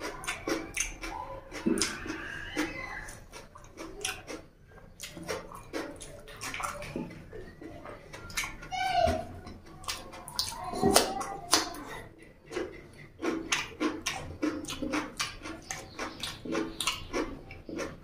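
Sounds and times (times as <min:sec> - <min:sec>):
chewing cucumber crunches: 0:00.0 - 0:08.7, 0:09.4 - 0:18.0
wet mouth clicks: 0:00.0 - 0:08.7, 0:09.4 - 0:18.0.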